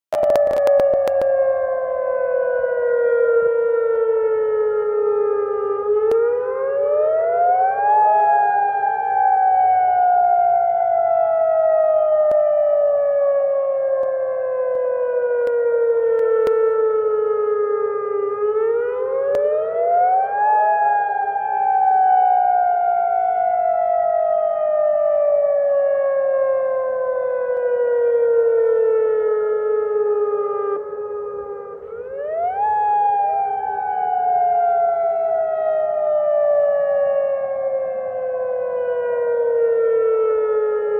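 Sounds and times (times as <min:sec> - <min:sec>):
emergency siren wailing: 0:00.1 - 0:40.9.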